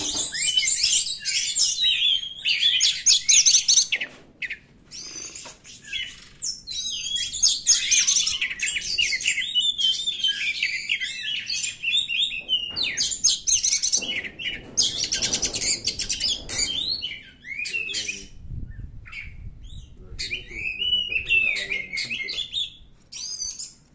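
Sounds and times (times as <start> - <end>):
bird singing chirps and whistles: 0.0 - 23.8.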